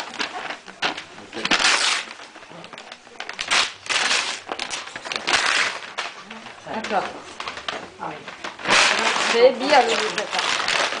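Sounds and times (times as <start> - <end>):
wrapping paper rustling and tearing: 0.0 - 11.0.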